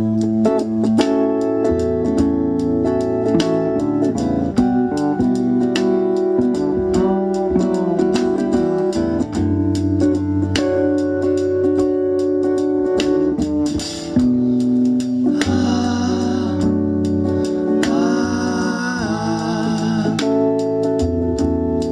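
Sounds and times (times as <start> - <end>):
plucked guitar: 0.0 - 21.9
steady bass line: 0.0 - 21.9.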